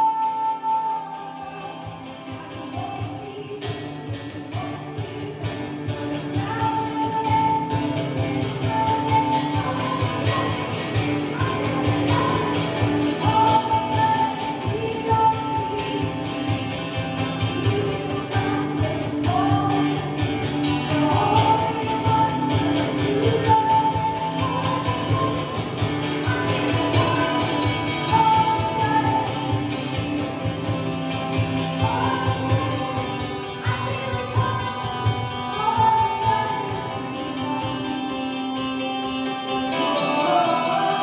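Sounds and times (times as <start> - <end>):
voices singing held notes: 0.0 - 38.2, 39.5 - 41.0.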